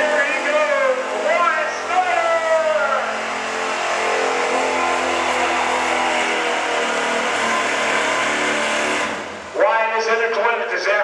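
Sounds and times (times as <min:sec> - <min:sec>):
pickup truck engine at full throttle: 0:00.0 - 0:09.6.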